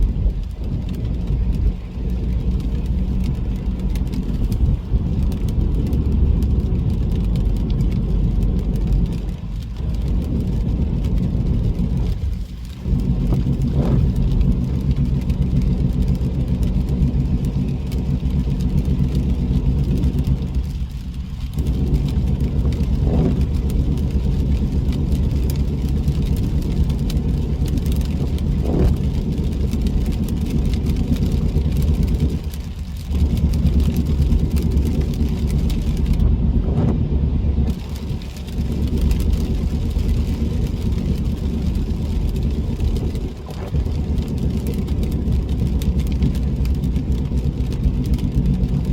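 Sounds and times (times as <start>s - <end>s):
car engine and tyre drone: 0.0s - 48.9s.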